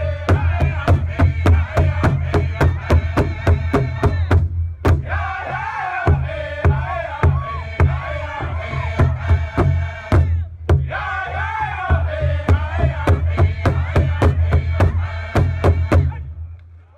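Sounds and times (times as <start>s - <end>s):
steady drum beat: 0.0s - 5.3s, 6.1s - 11.0s, 11.8s - 16.2s
voices singing: 0.0s - 16.4s.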